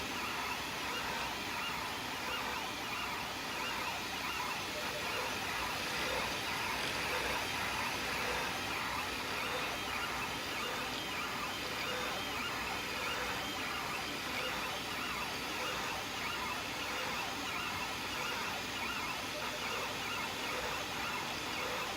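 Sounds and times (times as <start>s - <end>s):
stepper motors whining: 0.2s - 21.9s.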